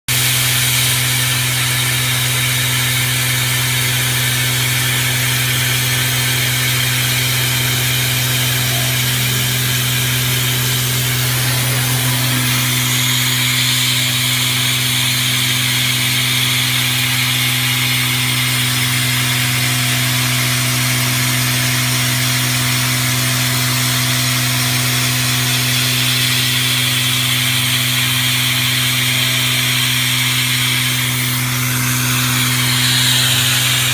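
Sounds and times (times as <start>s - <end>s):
router machining wood: 0.1s - 33.9s.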